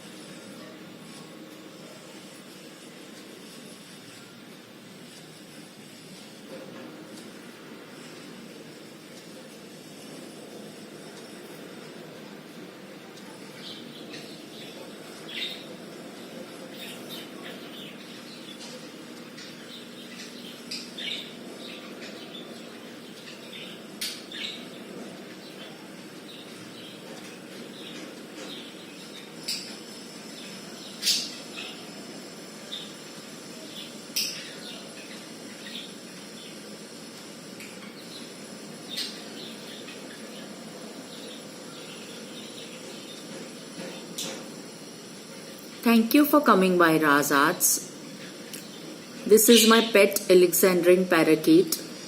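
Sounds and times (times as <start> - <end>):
steady low hum: 0.0 - 52.0
small birds chirping: 7.1 - 52.0.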